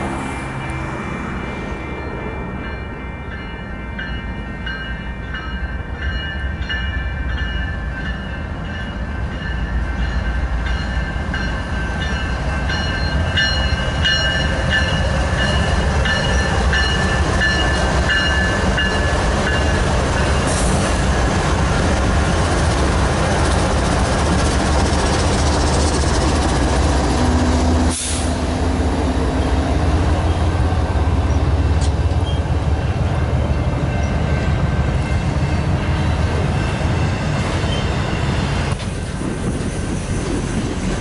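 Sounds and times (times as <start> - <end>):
diesel locomotive engine rumble: 0.0 - 41.0.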